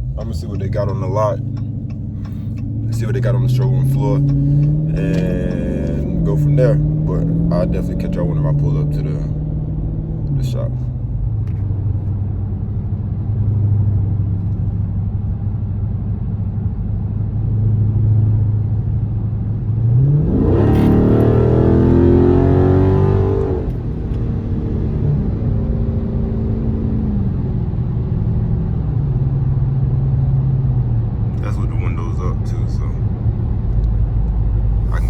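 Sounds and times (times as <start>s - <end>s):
car engine heard from cabin: 0.0s - 35.0s.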